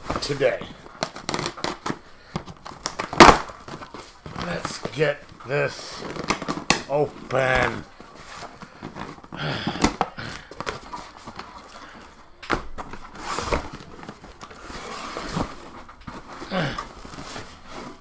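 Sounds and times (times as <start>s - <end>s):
packaging tearing and rustling: 0.0s - 18.0s.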